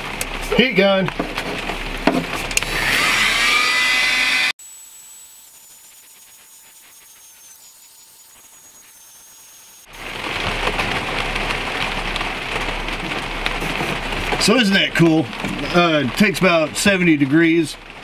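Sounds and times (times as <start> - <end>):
heat gun fan whine and rush: 0.0 - 15.7.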